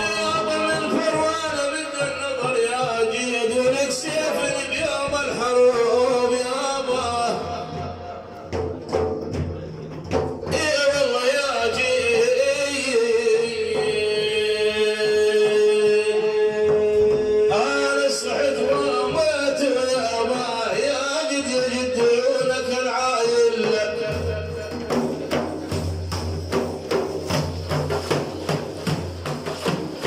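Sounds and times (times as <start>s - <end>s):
man singing praise song: 0.0s - 8.6s, 10.4s - 26.2s
drum strokes: 0.0s - 30.0s.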